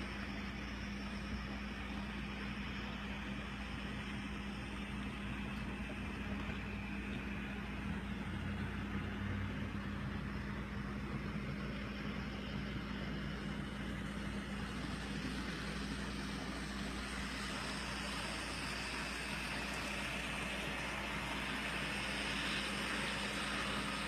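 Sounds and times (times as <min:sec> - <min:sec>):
low hum over hiss: 0:00.0 - 0:24.0.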